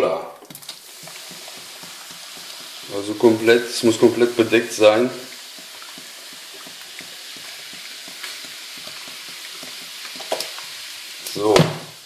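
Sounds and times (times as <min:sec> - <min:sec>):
cola fizzing in a pan: 0:00.3 - 0:12.0.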